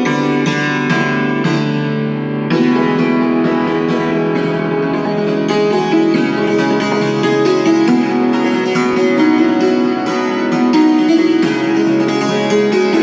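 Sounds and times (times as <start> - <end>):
hammered dulcimer tune: 0.0 - 13.0.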